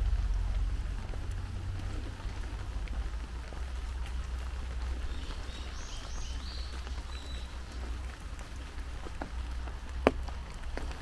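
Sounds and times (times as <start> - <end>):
low rumble: 0.0 - 11.0
rain falling on foliage: 0.0 - 11.0.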